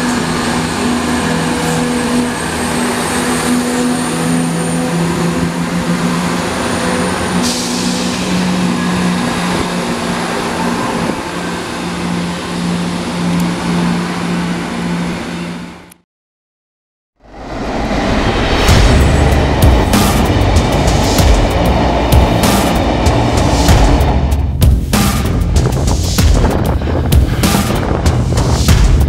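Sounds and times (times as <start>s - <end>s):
diesel train engines humming: 0.0s - 16.0s, 17.2s - 29.0s.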